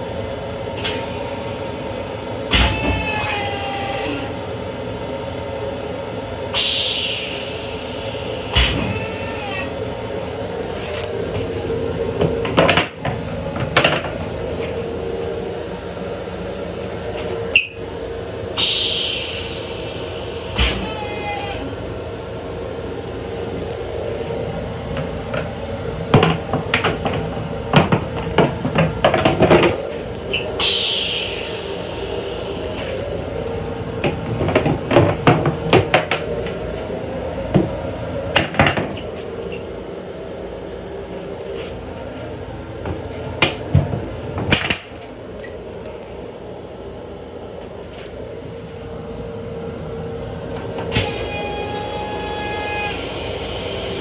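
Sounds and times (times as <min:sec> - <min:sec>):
train steady hum: 0:00.0 - 0:54.0.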